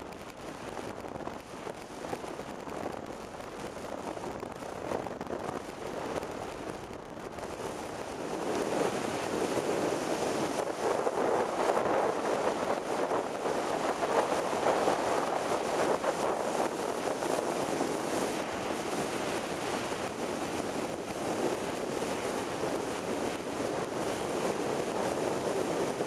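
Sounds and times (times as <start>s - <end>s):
wind buffeting the microphone: 0.0s - 26.0s.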